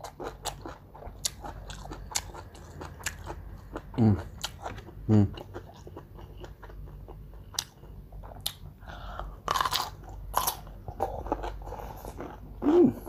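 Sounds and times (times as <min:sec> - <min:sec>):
chewing raw vegetables: 0:00.0 - 0:08.6, 0:09.4 - 0:13.0.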